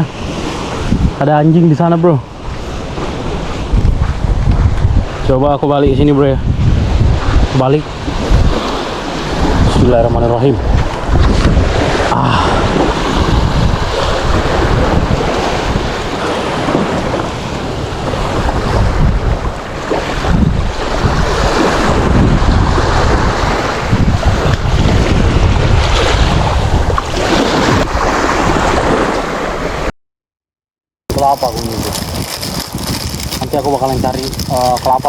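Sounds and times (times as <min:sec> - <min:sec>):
sea waves on shore: 0:00.0 - 0:05.3, 0:06.4 - 0:29.9, 0:31.1 - 0:35.0
wind buffeting microphone: 0:00.0 - 0:29.9, 0:31.1 - 0:35.0.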